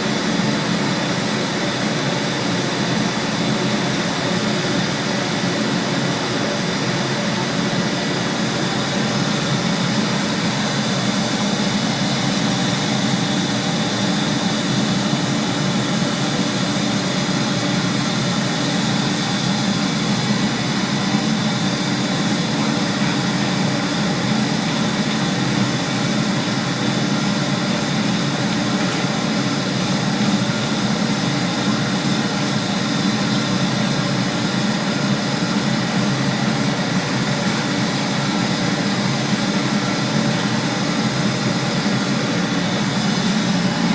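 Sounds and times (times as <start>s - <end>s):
boiler equipment roaring: 0.0s - 43.9s.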